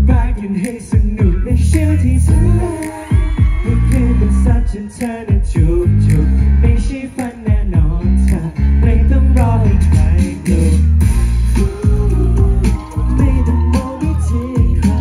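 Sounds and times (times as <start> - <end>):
steady drum beat: 0.0 - 8.0, 8.8 - 15.0
heavy bass line: 0.0 - 15.0
man singing: 0.0 - 15.0.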